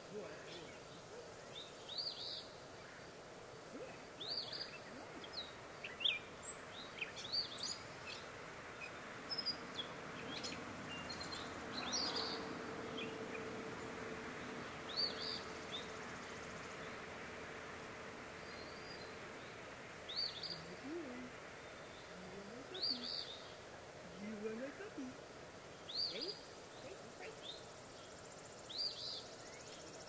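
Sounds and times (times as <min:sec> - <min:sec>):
faint steady hum: 0:00.0 - 0:30.0
outdoor background noise: 0:00.0 - 0:30.0
songbirds chirping: 0:00.0 - 0:30.0.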